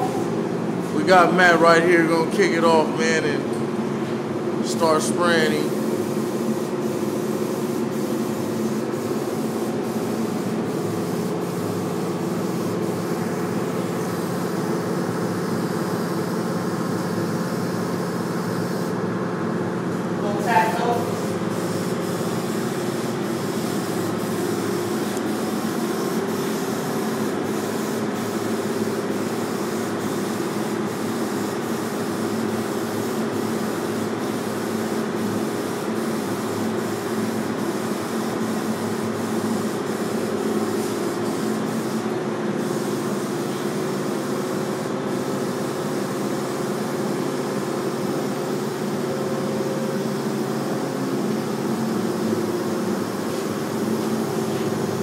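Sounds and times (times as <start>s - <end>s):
air compressor humming: 0.0s - 55.0s
paint spray gun hissing: 4.6s - 19.0s, 19.9s - 55.0s.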